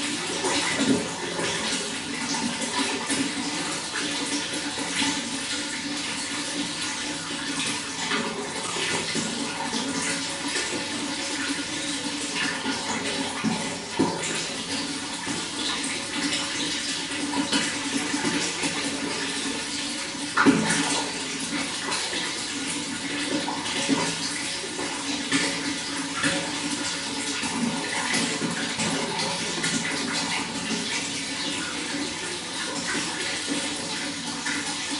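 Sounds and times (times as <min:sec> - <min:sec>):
running water bubbling: 0:00.0 - 0:34.9.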